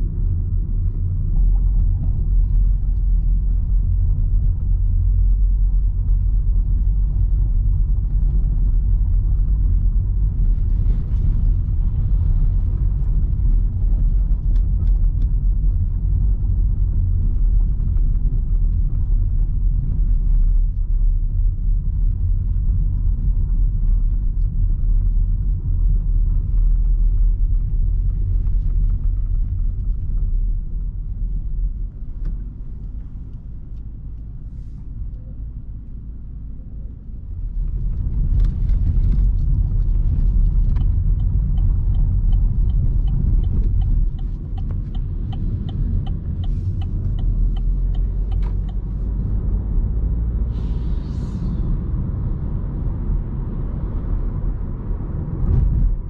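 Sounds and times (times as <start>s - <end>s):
road noise: 0.0s - 23.4s, 27.1s - 56.0s
car engine rumble: 0.0s - 56.0s.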